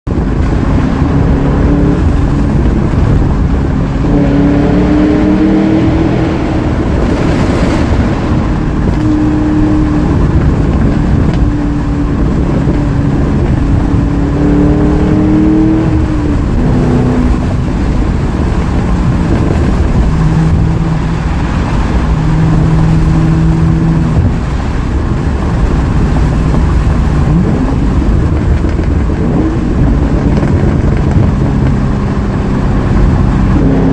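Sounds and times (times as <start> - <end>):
car engine exhaust revving: 0.1 - 33.9.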